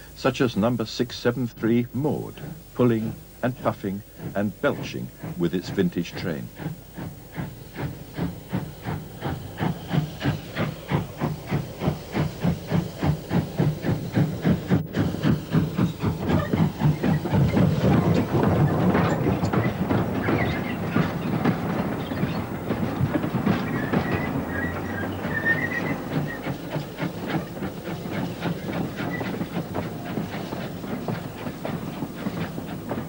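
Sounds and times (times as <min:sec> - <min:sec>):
steam locomotive chuffing: 0:00.0 - 0:33.0.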